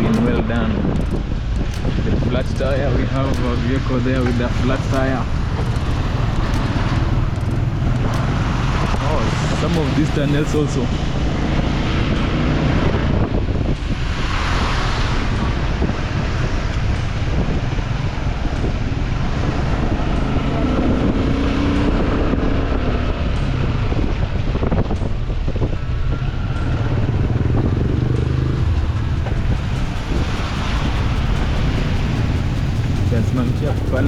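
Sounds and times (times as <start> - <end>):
car engine and tyre rumble: 0.0 - 34.0
wind on microphone: 0.0 - 34.0.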